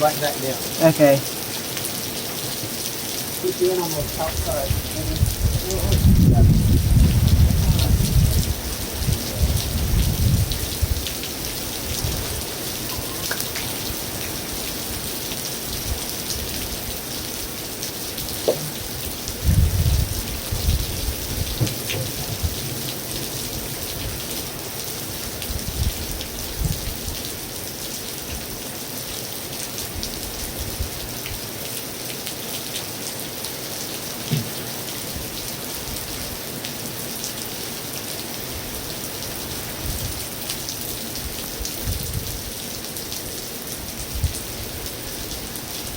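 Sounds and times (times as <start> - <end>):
heavy rain on a metal roof: 0.0 - 45.9.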